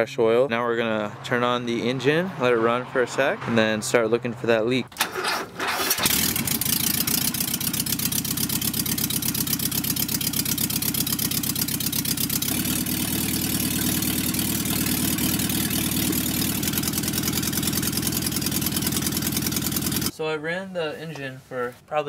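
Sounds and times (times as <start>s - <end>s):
engine idling: 0.6s - 20.1s.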